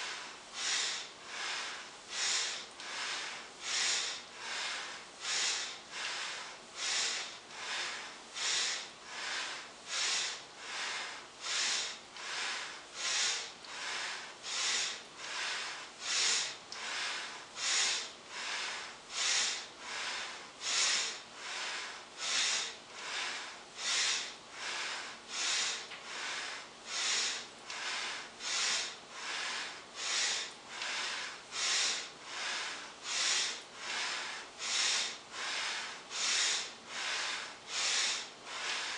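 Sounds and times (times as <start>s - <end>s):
person breathing hard through nose: 0.0s - 38.9s.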